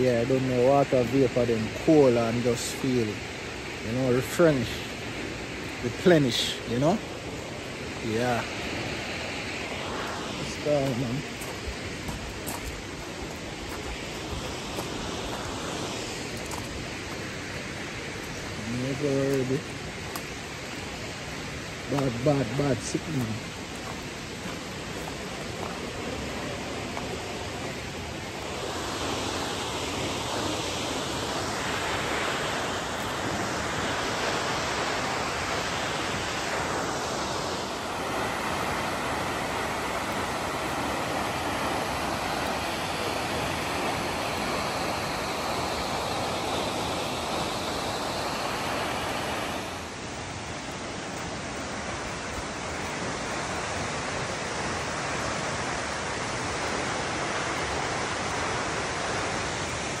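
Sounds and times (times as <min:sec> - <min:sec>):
waterfall roaring: 0:00.0 - 1:00.0.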